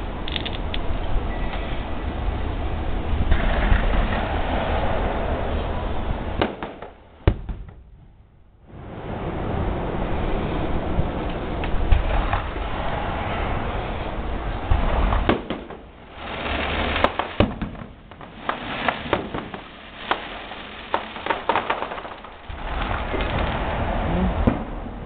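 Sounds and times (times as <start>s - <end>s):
fireworks popping and crackling: 0.0s - 1.8s, 3.0s - 10.0s, 10.6s - 25.0s
fireworks low rumble: 0.0s - 25.0s
fireworks bangs: 2.4s - 25.0s.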